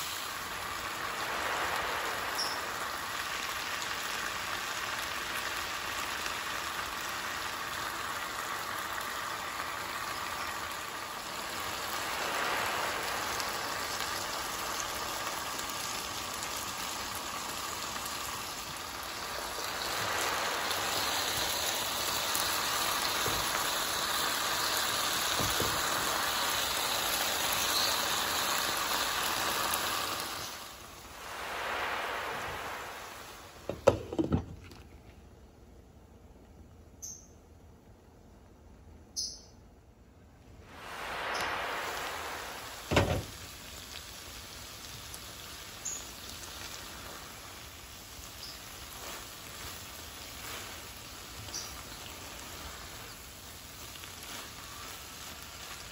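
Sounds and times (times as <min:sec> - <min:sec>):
vegetables sizzling in oil: 0:00.0 - 0:34.8, 0:40.6 - 0:55.9.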